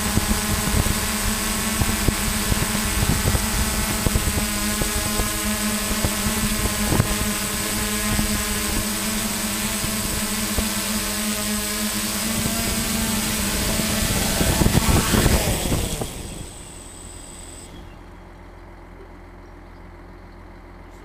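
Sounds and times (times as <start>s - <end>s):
propeller wash gusty rush: 0.0s - 17.7s
drone motor and propeller hum: 0.0s - 19.1s.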